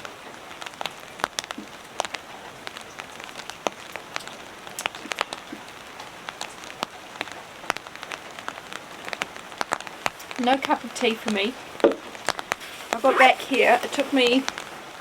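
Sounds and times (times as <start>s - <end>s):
rain on a roof: 0.0s - 15.0s
raindrops striking sharply: 0.0s - 15.0s.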